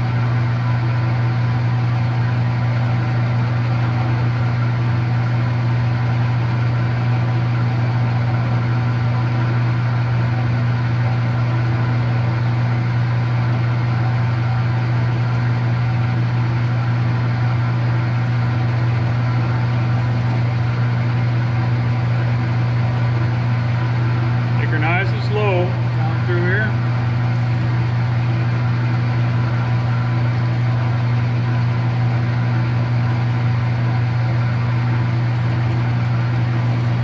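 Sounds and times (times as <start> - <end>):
metal-cutting machine humming: 0.0 - 37.0.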